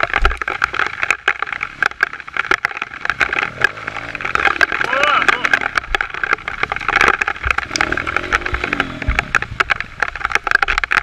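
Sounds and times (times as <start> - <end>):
sharp cracks and clicks: 0.0 - 11.0
motorcycle riding: 1.9 - 11.0.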